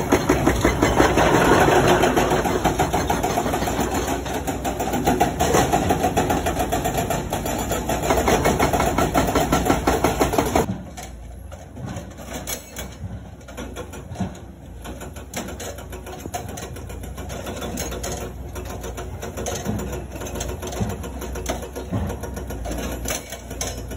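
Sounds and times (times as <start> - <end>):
hydraulic breaker hammering rock: 0.0 - 11.0, 11.8 - 23.9
excavator diesel engine: 0.0 - 23.9.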